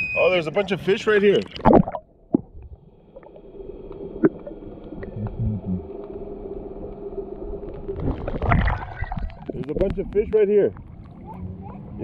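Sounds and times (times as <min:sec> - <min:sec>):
muffled underwater hum: 0:01.5 - 0:12.0.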